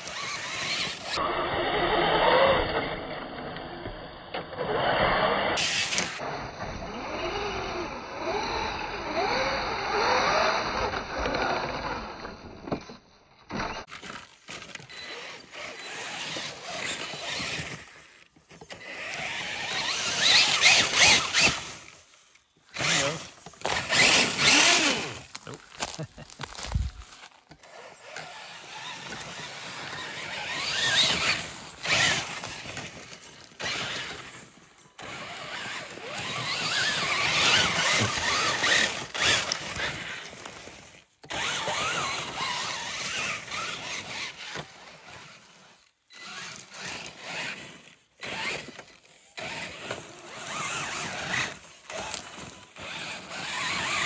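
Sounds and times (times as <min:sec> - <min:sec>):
rc truck motor whining: 0:00.0 - 0:12.5, 0:13.5 - 0:54.0.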